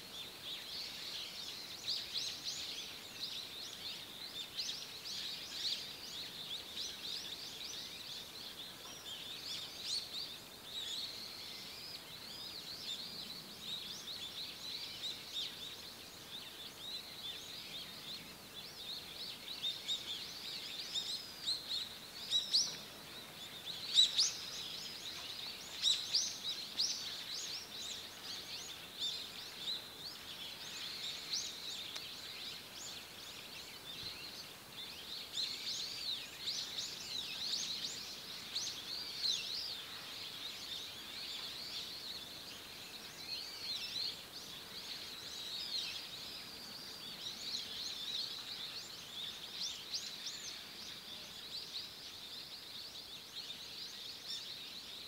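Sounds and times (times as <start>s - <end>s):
faint forest ambience: 0.0s - 55.0s
small birds chirping: 0.0s - 55.0s.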